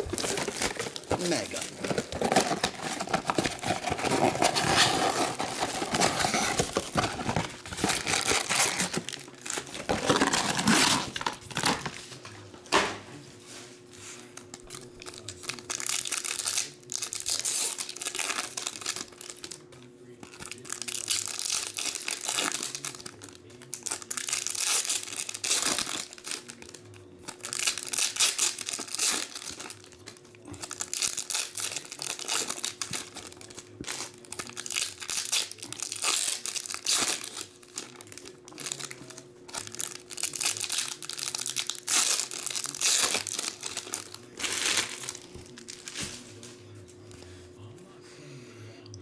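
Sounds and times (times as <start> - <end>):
foil wrappers tearing and crinkling: 0.0 - 12.0, 14.4 - 46.5.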